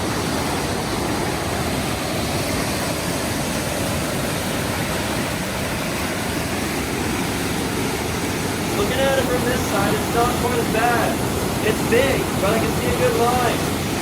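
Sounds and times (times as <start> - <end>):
waterfall and rapids rushing: 0.0 - 14.0.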